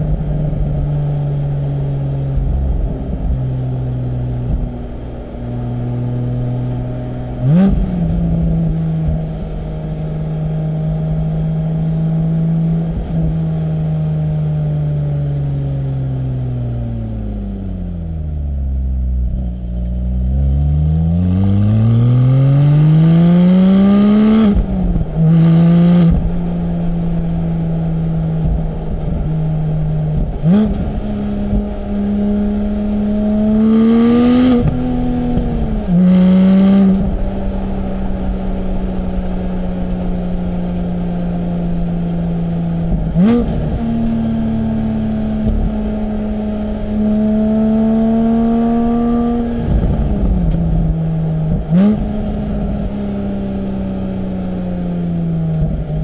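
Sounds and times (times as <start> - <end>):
car engine revving through gears: 2.4 - 13.8, 19.2 - 56.0.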